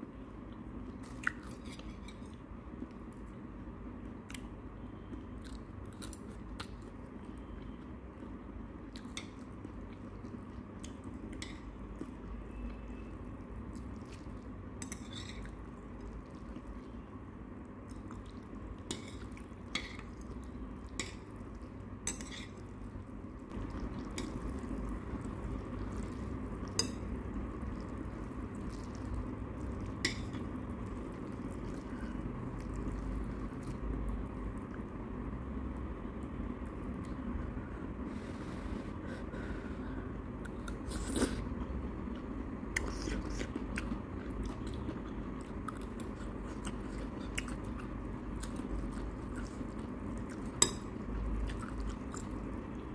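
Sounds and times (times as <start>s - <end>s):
low background hum: 0.0s - 52.9s.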